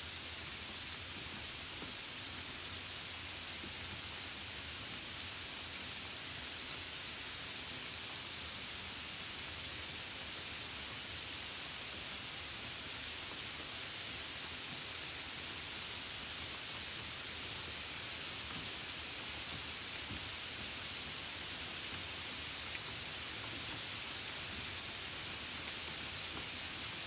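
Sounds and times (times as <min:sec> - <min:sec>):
rain and wet snow hiss: 0:00.0 - 0:27.0.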